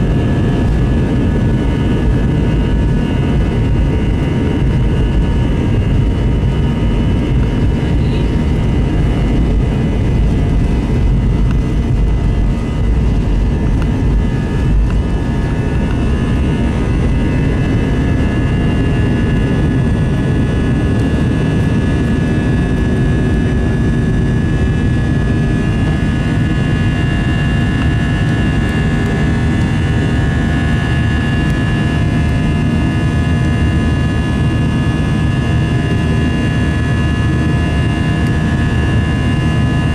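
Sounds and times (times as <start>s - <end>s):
jet engine high whine: 0.0s - 39.9s
jet engines rumbling: 0.0s - 39.9s.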